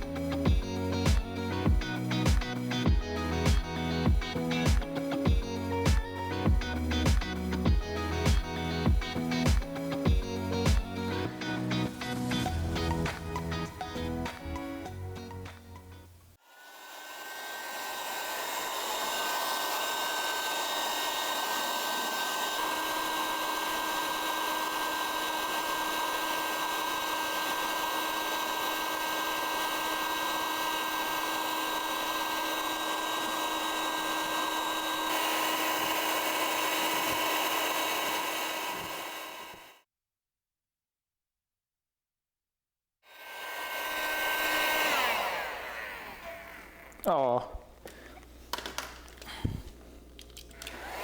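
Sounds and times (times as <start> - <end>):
paint polisher motor whining: 0.0 - 15.6, 16.4 - 39.8, 43.1 - 47.1, 50.5 - 51.0.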